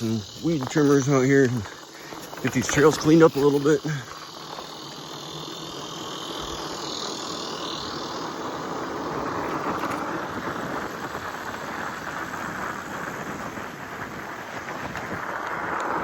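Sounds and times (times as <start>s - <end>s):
tyres rolling over dirt: 0.0s - 16.0s.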